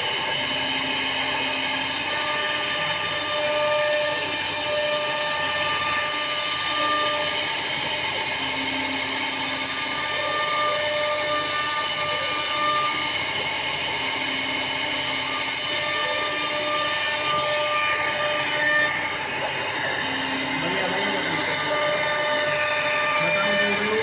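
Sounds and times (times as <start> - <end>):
router carving wood whine: 0.0 - 24.0.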